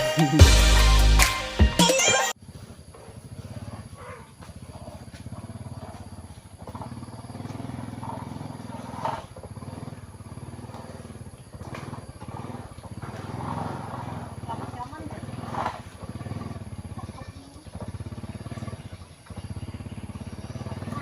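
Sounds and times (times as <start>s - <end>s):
small motorbike engine running: 2.4s - 21.0s.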